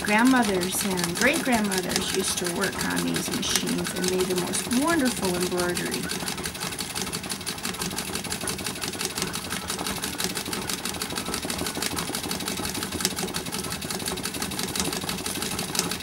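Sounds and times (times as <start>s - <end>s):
treadle sewing machine clattering: 0.0s - 16.0s.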